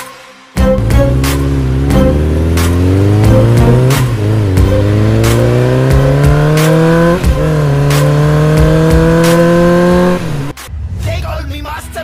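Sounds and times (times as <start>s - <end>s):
motorcycle engine accelerating: 0.8s - 10.6s.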